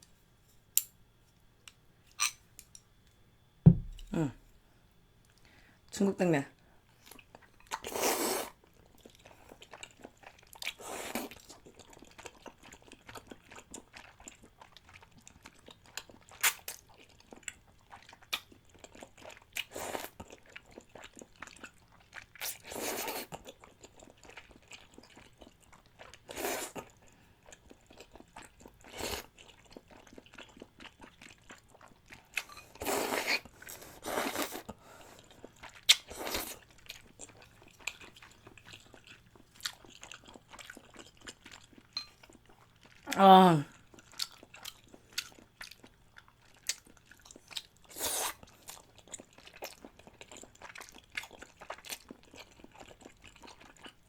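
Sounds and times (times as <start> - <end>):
wet chewing and smacking: 8.6 - 43.1, 43.7 - 54.0.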